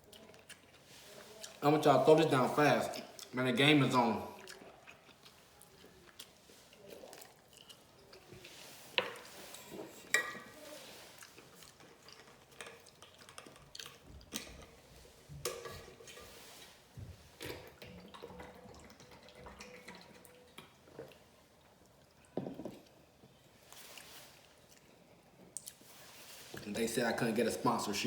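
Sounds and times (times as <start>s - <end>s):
wet chewing mouth sounds: 0.0s - 1.8s, 2.8s - 3.4s, 4.2s - 16.4s, 17.2s - 26.7s.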